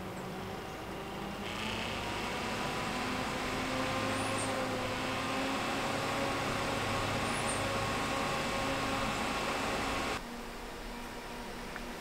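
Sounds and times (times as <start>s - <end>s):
cooling fan motor hum: 0.0s - 12.0s
whir of moving air: 0.0s - 12.0s.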